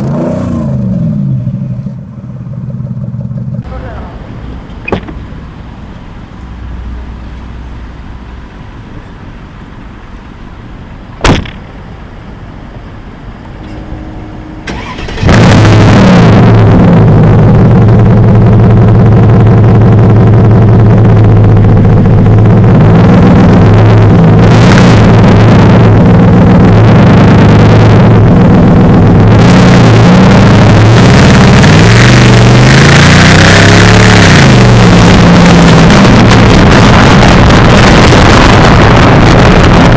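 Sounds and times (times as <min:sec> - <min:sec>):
car engine starting and revving: 0:00.0 - 0:01.8, 0:03.5 - 0:39.9.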